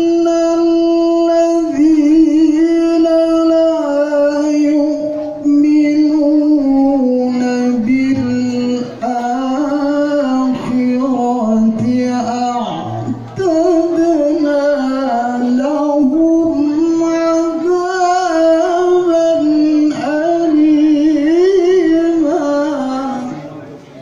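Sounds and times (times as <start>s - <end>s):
man chanting recitation: 0.0s - 24.0s.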